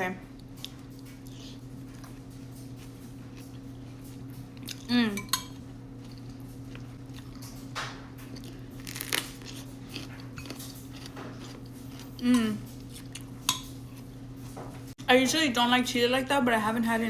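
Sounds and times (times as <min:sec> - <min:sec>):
steady low hum: 0:00.0 - 0:17.0
person chewing crunchy food: 0:00.4 - 0:14.2.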